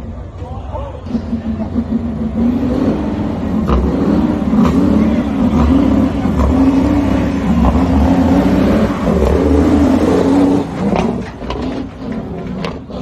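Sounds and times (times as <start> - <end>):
truck engine accelerating: 0.0 - 13.0.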